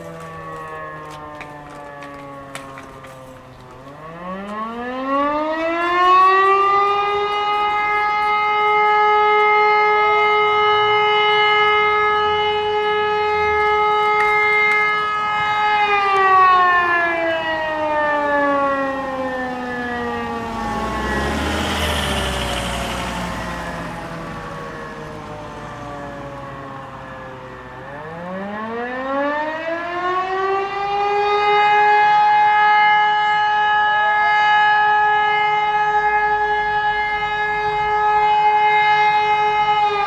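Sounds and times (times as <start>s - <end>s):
civil defense siren: 0.0s - 40.0s.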